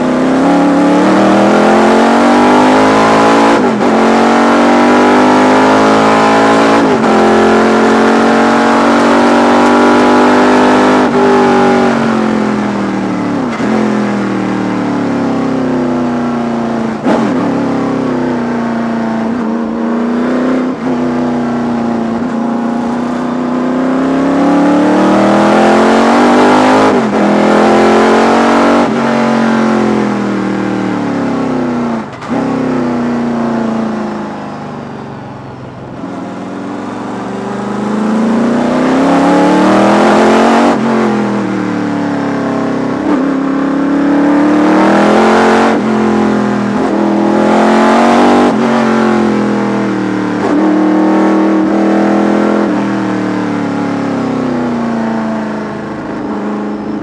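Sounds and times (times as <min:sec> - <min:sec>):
racing engine revving: 0:00.0 - 0:34.4, 0:35.9 - 0:57.0.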